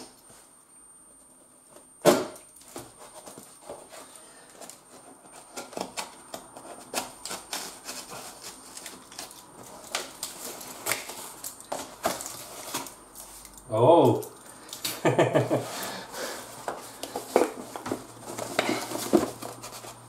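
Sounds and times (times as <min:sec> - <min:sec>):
cardboard scraping and rustling: 0:01.7 - 0:13.5, 0:15.5 - 0:20.0.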